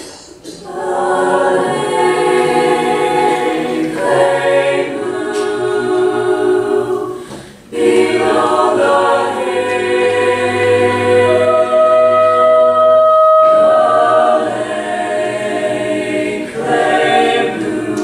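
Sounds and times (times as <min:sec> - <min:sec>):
choir singing a cappella: 0:00.0 - 0:18.0.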